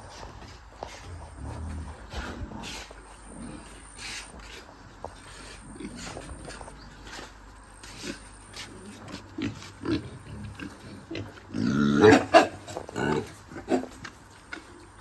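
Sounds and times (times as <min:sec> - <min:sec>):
pigs grunting: 0:00.0 - 0:15.0.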